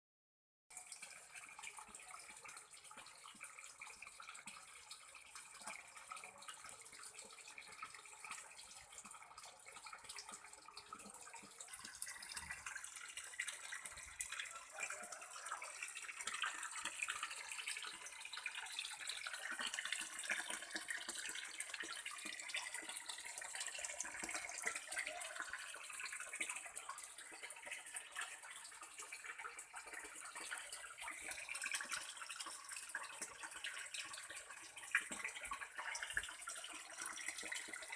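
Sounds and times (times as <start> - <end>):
water trickling into pond: 0.7 - 37.9.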